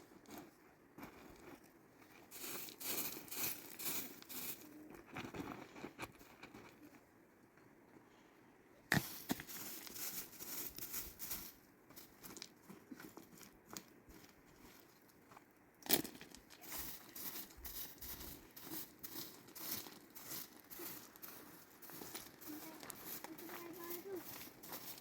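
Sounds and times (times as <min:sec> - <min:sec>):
rustling and crinkling handling noise: 0:00.0 - 0:07.1, 0:08.9 - 0:25.0.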